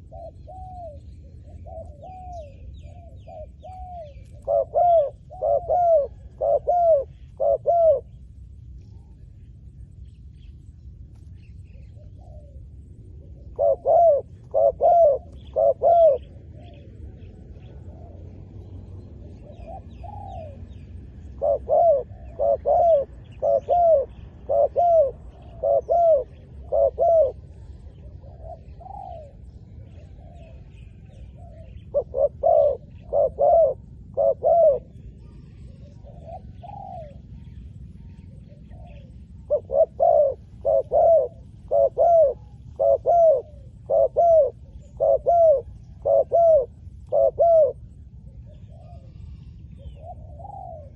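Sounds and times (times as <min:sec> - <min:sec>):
dove cooing: 0:00.0 - 0:09.2, 0:11.6 - 0:50.9.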